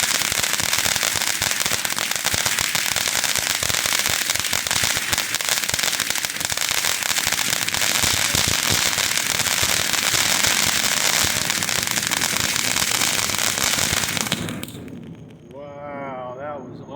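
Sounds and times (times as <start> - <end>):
firework fountain hissing and crackling: 0.0 - 16.4.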